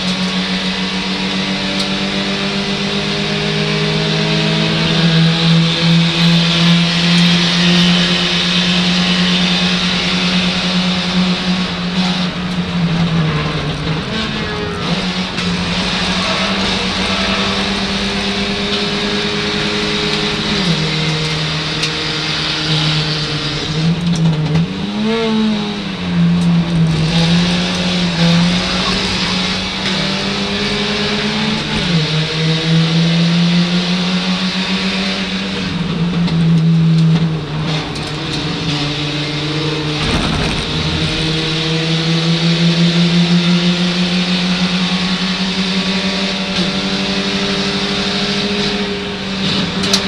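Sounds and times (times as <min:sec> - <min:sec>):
race car engine revving: 0:00.0 - 0:50.0.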